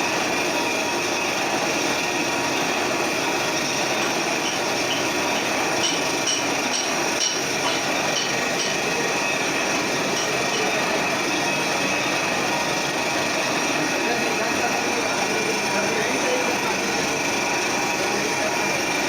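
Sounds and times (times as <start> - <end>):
metal lathe grinding: 0.0 - 19.0.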